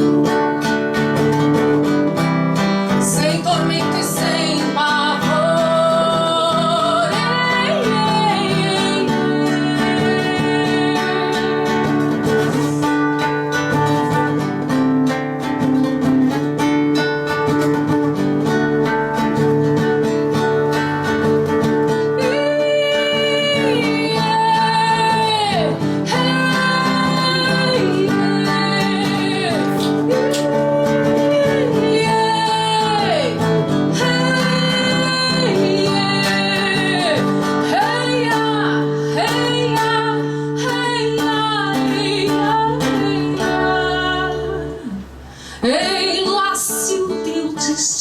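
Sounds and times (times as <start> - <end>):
acoustic guitar chords: 0.0 - 48.0.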